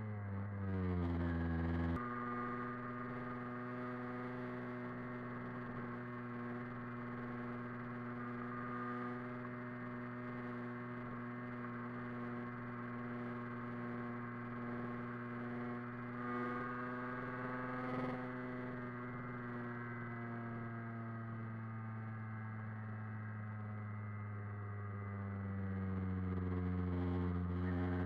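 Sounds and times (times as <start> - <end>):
moped engine running: 0.0 - 21.7, 23.4 - 28.0.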